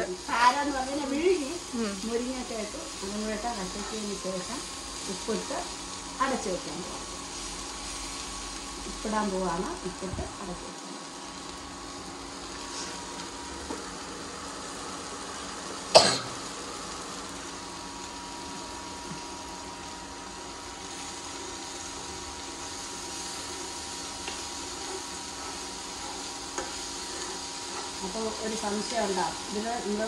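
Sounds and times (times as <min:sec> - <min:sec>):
faint steady sizzle: 0:00.0 - 0:30.0.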